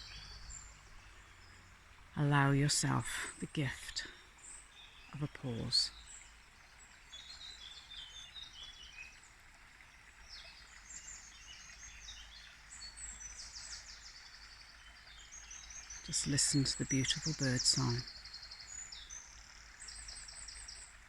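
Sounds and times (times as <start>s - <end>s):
birds singing: 0.0s - 21.0s
stream running over rocks: 0.0s - 21.0s.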